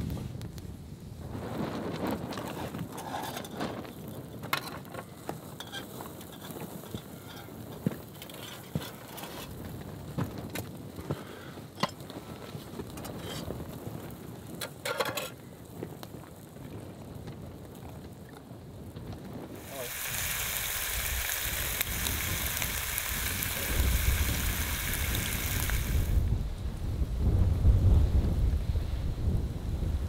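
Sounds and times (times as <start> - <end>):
campfire crackling and popping: 0.0 - 28.6
low steady hiss: 3.6 - 30.0.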